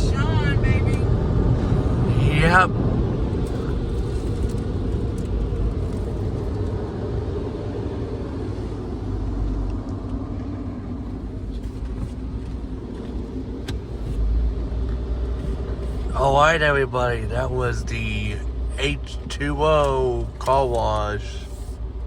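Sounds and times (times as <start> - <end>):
car engine low rumble: 0.0 - 22.0.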